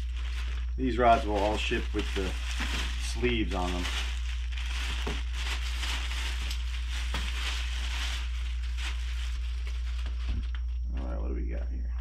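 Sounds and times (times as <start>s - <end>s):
plastic wrapping crinkling: 0.0s - 10.8s
steady low hum: 0.0s - 12.0s.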